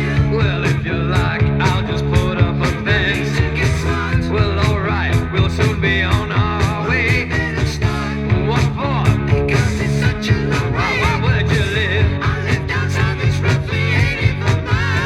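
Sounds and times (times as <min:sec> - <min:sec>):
bass: 0:00.0 - 0:15.0
drum beat: 0:00.0 - 0:15.0.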